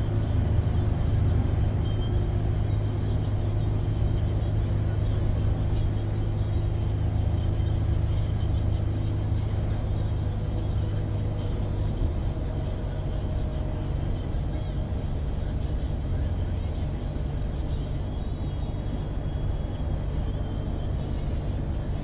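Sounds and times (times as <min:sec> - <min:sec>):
diesel truck engine droning: 0:00.0 - 0:22.0.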